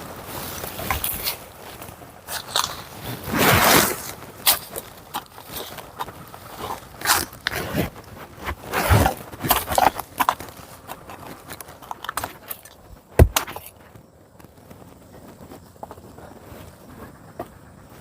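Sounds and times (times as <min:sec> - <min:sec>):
roots and soil crunching: 0:00.0 - 0:18.0.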